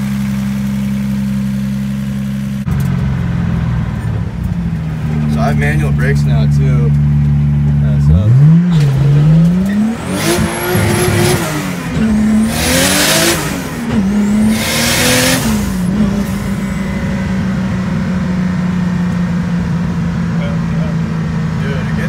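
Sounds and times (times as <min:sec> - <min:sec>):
car engine idling: 0:00.0 - 0:22.0
car engine revving: 0:00.0 - 0:22.0.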